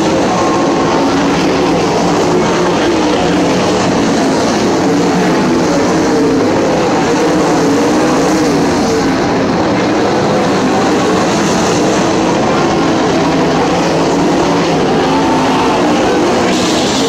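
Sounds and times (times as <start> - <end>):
racing car engines roaring: 0.0 - 17.0.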